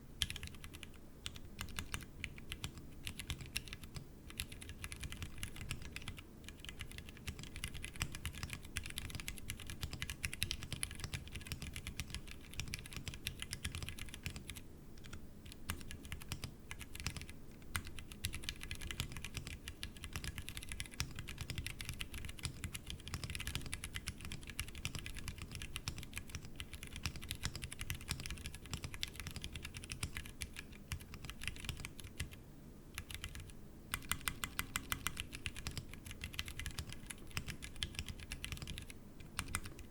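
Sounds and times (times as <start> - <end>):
mechanical keyboard typing: 0.2 - 32.4, 33.0 - 39.9.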